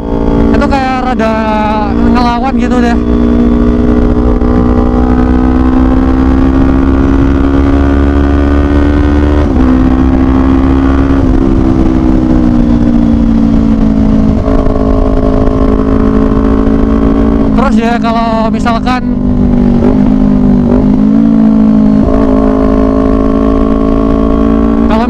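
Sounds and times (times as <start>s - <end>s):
motorcycle engine revving: 0.0s - 25.0s
wind noise on microphone: 0.0s - 25.0s.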